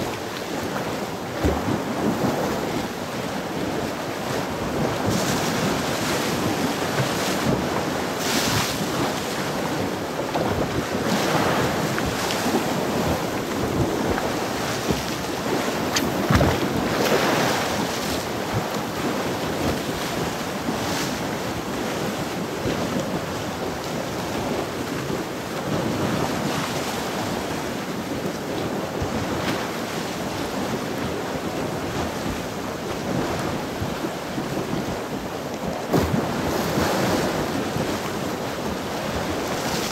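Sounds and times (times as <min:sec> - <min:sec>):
sea waves washing against shore: 0:00.0 - 0:39.9
wind buffeting microphone: 0:00.0 - 0:39.9.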